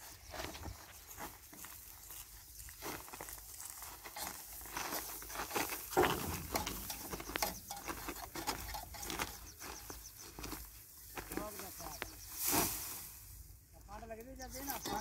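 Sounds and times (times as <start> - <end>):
dry straw rustling by hand: 0.0 - 15.0.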